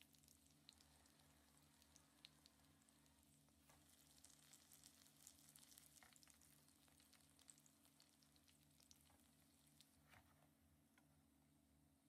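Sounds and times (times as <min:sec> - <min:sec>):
food frying in a pan: 0:00.0 - 0:10.0
low steady hum: 0:00.0 - 0:12.0.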